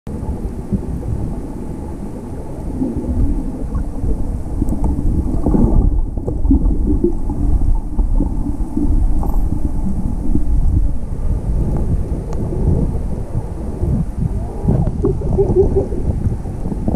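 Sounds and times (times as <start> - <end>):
underwater gurgles: 0.1 - 16.9
underwater low rumble: 0.1 - 16.9.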